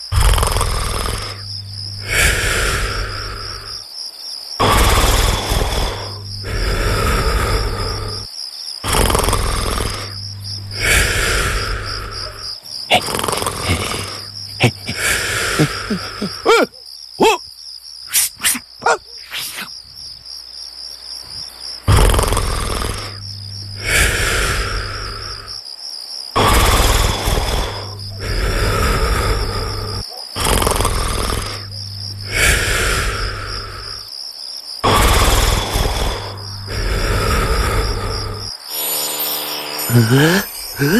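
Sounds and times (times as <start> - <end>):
loud comic snoring: 0.0 - 3.8, 4.6 - 17.4, 21.8 - 25.6, 26.4 - 34.1, 34.8 - 38.9, 39.8 - 40.9
crickets chirping: 0.0 - 40.9.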